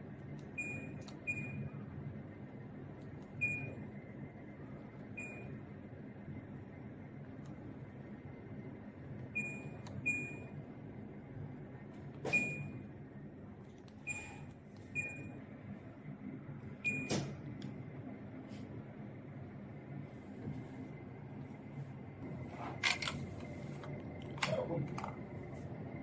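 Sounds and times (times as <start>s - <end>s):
air conditioner beeps: 0.0s - 13.2s, 13.8s - 26.0s
steady low hum: 0.0s - 26.0s.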